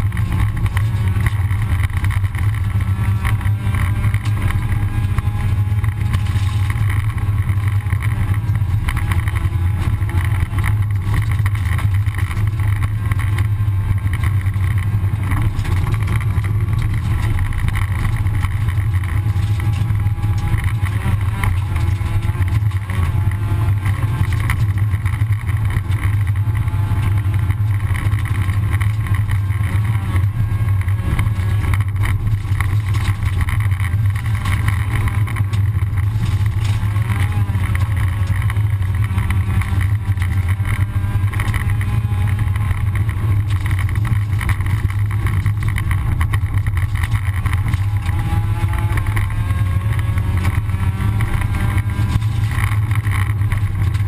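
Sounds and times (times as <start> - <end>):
rally car engine running hard: 0.0 - 54.0
road and gravel noise: 0.0 - 54.0.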